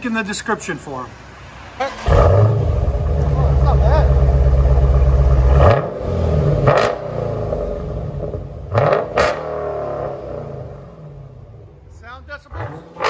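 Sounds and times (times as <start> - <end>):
car engine revving: 1.2 - 13.0.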